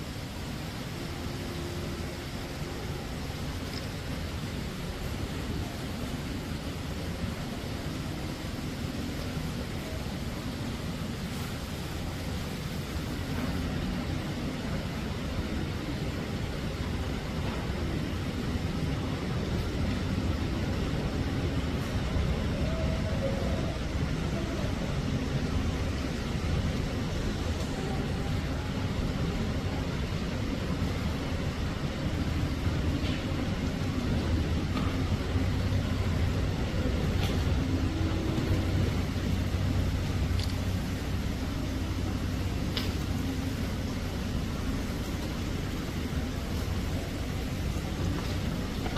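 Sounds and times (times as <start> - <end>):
low background rumble: 0.0 - 48.9.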